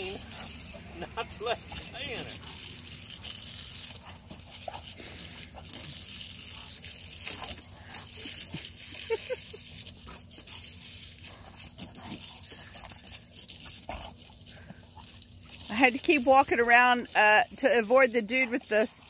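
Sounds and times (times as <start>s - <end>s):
dog snapping and splashing: 0.0s - 16.3s
hose spraying water: 0.0s - 19.0s.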